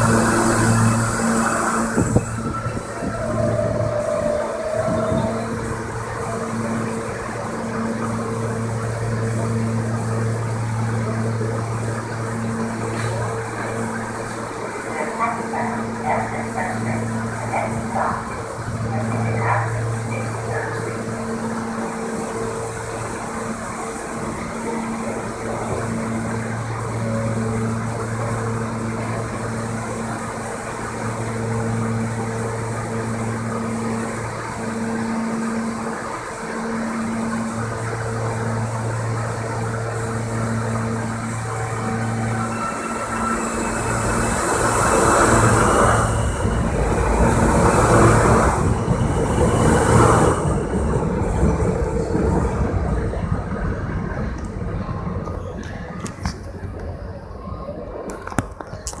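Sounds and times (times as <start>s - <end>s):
subway train electric hum: 0.0s - 59.0s.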